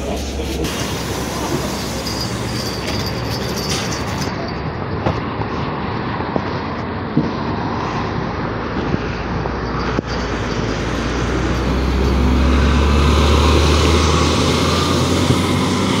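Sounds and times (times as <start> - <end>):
bus engine drone: 0.0 - 16.0
traffic noise: 0.0 - 16.0.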